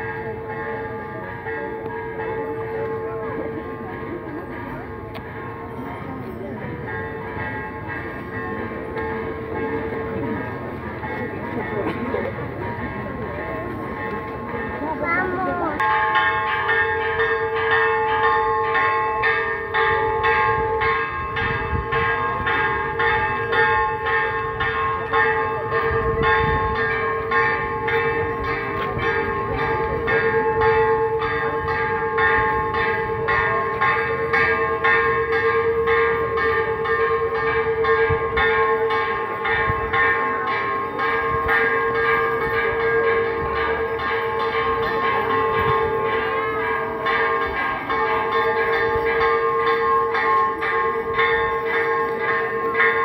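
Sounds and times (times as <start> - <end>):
church bells ringing: 0.0 - 53.0
crowd murmuring: 0.0 - 53.0.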